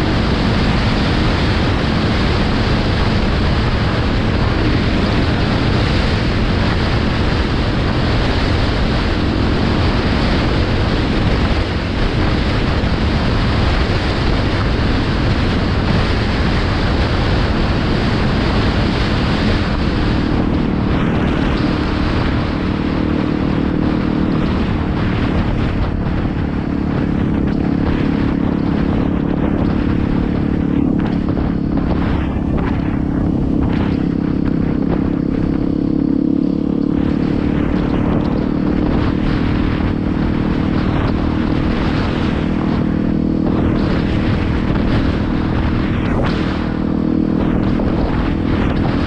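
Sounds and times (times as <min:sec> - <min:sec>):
motorcycle engine running: 0:00.0 - 0:49.0
wind noise: 0:00.0 - 0:49.0.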